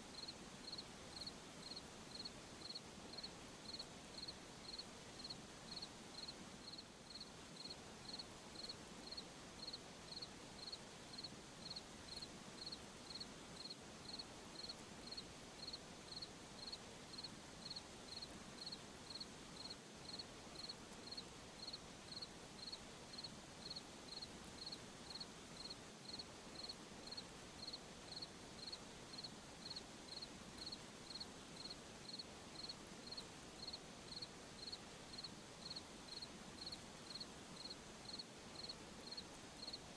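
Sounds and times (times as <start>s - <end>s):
faint night ambience hiss: 0.0s - 39.9s
cricket chirping: 0.2s - 39.8s.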